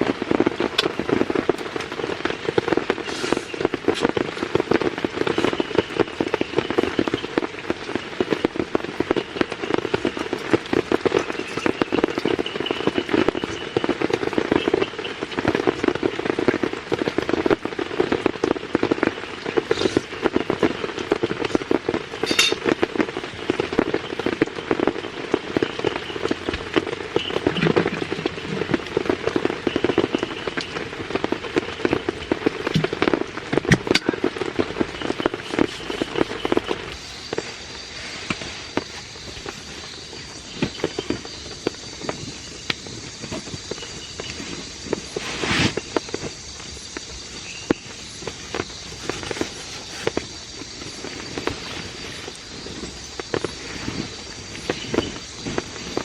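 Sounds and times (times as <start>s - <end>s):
rain pattering on surface: 0.0s - 56.0s.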